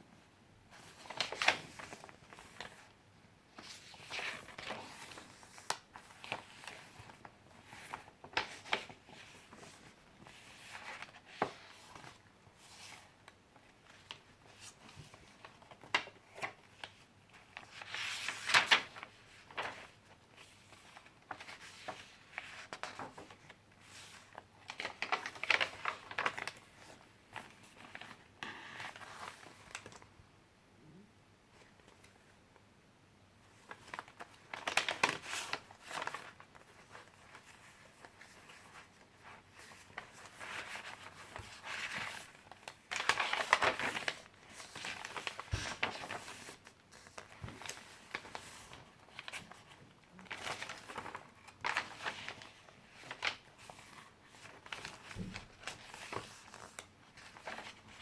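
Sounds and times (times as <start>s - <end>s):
paper pages rustling: 0.7s - 2.9s, 3.6s - 30.1s, 33.5s - 58.0s.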